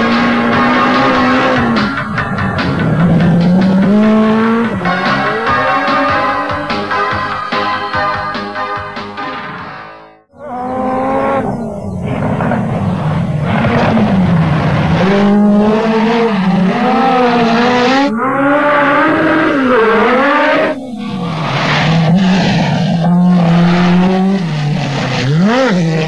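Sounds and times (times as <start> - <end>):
rally car engine at full throttle: 0.0 - 7.4, 10.3 - 26.0.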